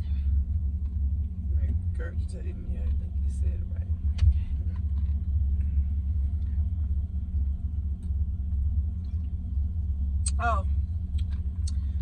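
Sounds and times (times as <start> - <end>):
steady low rumble with hum: 0.0 - 12.0.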